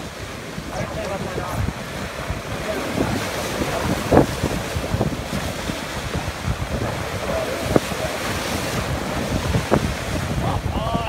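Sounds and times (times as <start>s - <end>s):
storm surf breaking on rocks: 0.0s - 11.0s
wind buffeting microphone: 0.0s - 11.0s.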